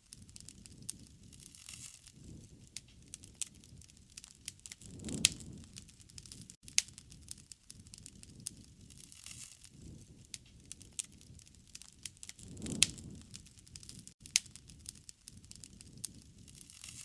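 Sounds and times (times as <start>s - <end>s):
low rush of flames: 0.0s - 17.0s
wood fire crackling: 0.0s - 17.0s
sharp pops of fire: 0.1s - 17.0s.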